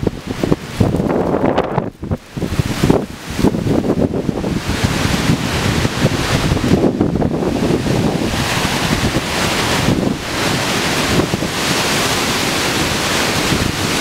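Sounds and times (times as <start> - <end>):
gusting wind through trees: 0.0 - 14.0
wind buffeting microphone: 0.0 - 14.0.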